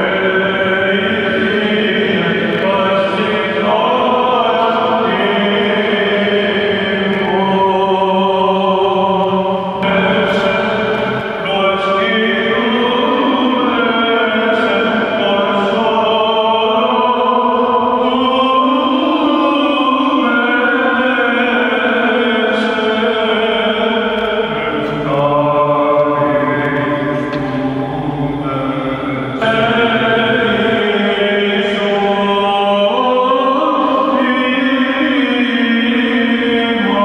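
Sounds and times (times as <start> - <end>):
men chanting in a church: 0.0 - 37.0.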